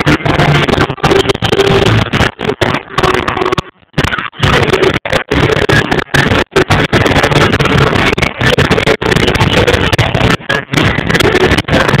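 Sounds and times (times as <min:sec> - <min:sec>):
crowd noise: 0:00.0 - 0:12.0
distorted amplified pop music: 0:00.0 - 0:12.0.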